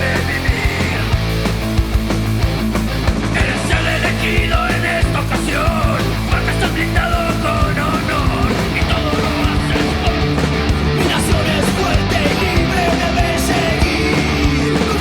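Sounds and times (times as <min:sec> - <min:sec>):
punk rock song: 0:00.0 - 0:15.0.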